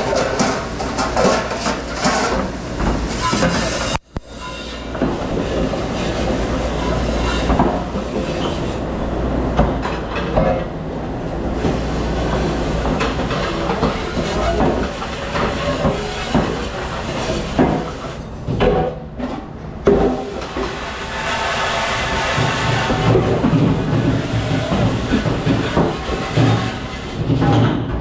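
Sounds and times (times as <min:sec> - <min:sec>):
dishes and utensils clattering: 0:00.0 - 0:08.8, 0:11.6 - 0:20.8, 0:22.2 - 0:28.0
machinery rumble: 0:00.0 - 0:28.0.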